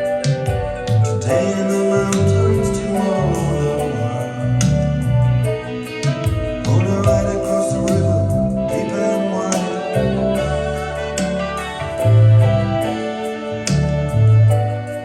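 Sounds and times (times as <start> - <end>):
music with beat bass and guitar: 0.0 - 15.0.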